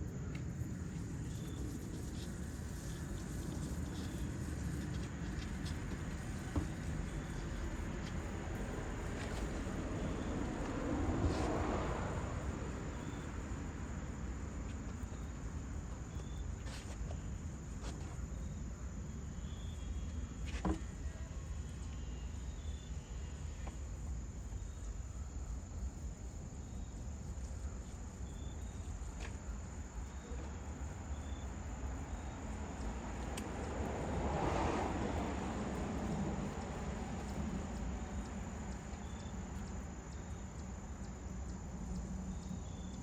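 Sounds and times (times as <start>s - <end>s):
insects chirping: 0.0s - 43.0s
low outdoor rumble: 0.0s - 43.0s.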